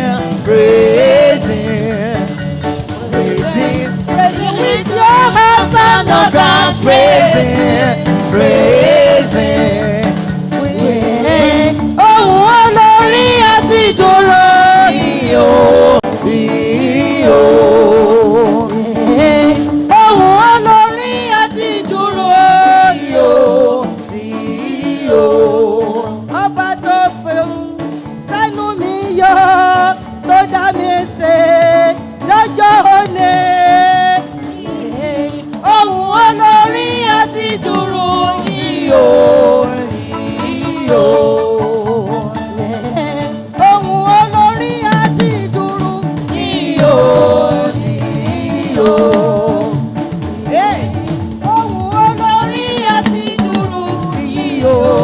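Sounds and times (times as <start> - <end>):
musical accompaniment: 0.0 - 55.0
woman singing gospel chorus: 0.0 - 55.0.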